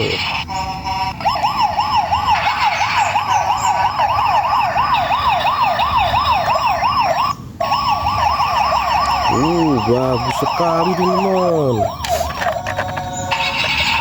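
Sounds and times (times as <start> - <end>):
toy police siren yelping: 0.0 - 14.0.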